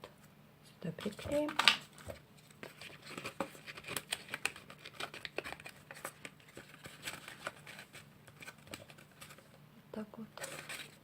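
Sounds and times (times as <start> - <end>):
paper and cardboard rustling: 1.0 - 9.6, 10.4 - 11.0.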